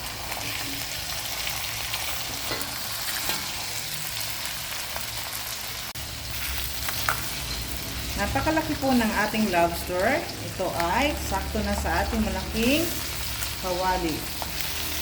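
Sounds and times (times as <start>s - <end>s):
lobster sizzling in oil: 0.0s - 15.0s.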